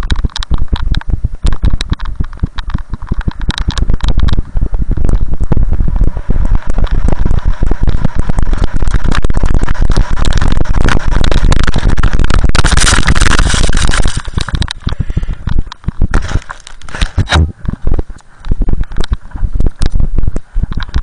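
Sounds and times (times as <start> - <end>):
camera knocking on snow: 0.0 - 21.0
wind buffeting camera: 0.0 - 21.0.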